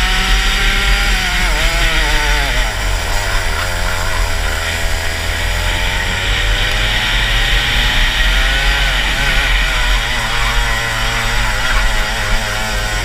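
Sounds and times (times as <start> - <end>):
kart engine revving: 0.0 - 13.0.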